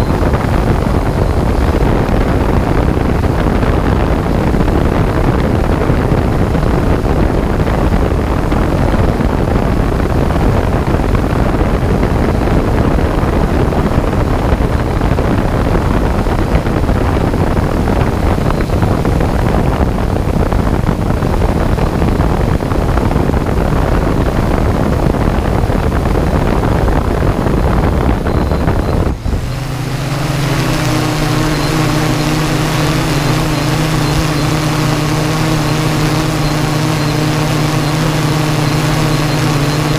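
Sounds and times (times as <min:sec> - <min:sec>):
low rumble: 0:00.0 - 0:39.9
motor and propeller hum: 0:00.0 - 0:39.9
wind rushing over microphone: 0:00.0 - 0:39.9.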